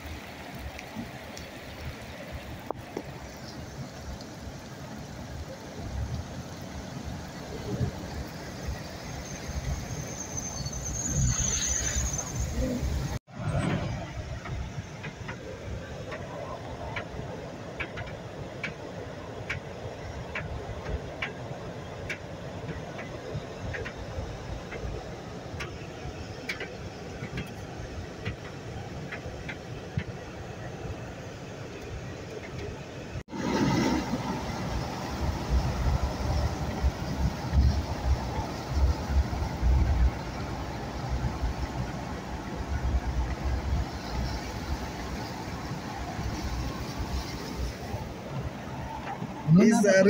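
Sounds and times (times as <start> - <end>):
water rushing and sloshing: 0.0 - 10.3, 10.9 - 50.0
street traffic rumble: 0.0 - 50.0.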